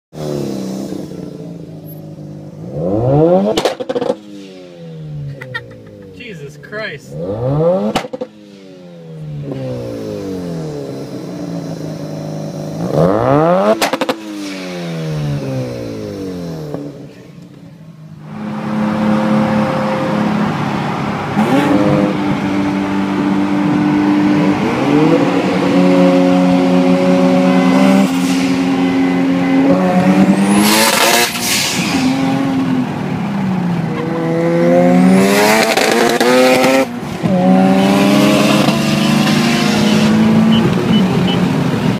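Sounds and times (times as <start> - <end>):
sports car engine revving: 0.1 - 6.1, 7.1 - 17.4, 18.1 - 41.9.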